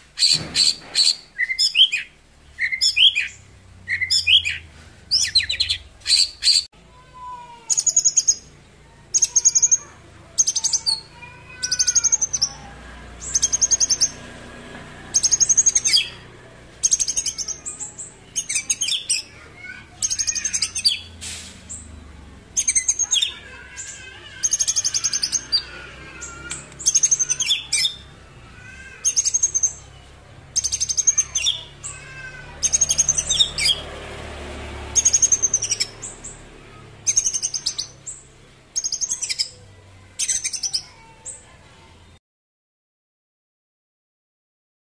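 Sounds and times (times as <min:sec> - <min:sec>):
songbird singing shrill phrases: 0:00.0 - 0:07.0, 0:07.7 - 0:28.3, 0:29.0 - 0:34.0, 0:34.9 - 0:41.5.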